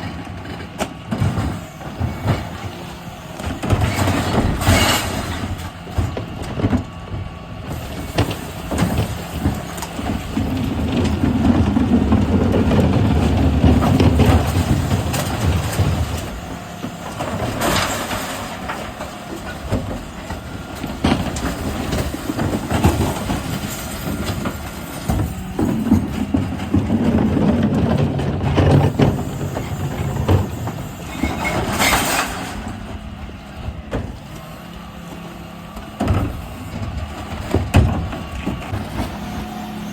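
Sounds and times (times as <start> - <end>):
bins clattering and banging: 0.0 - 39.9.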